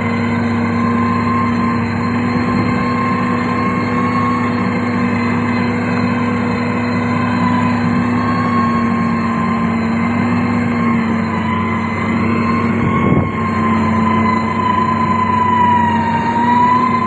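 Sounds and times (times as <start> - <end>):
diesel engine droning: 0.0 - 17.0
steady whine: 0.0 - 17.0.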